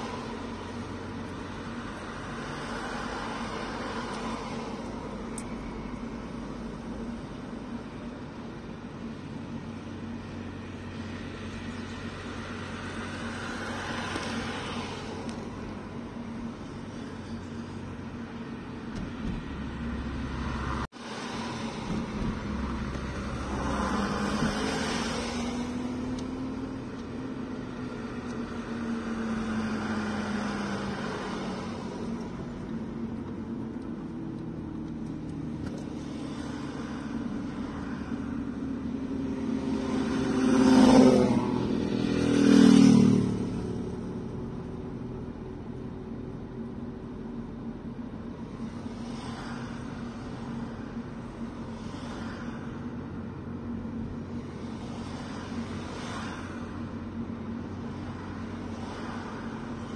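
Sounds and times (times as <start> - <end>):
vehicles passing by: 0.0 - 59.9.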